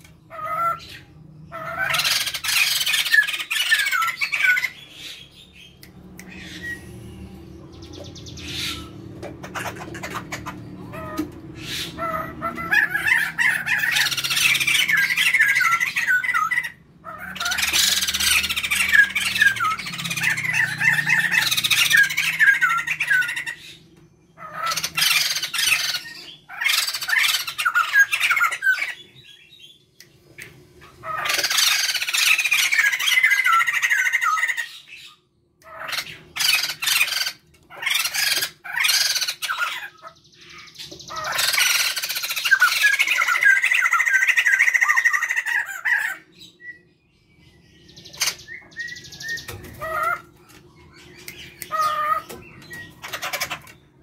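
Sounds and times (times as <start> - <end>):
birds calling rapid notes: 0.0 - 54.0.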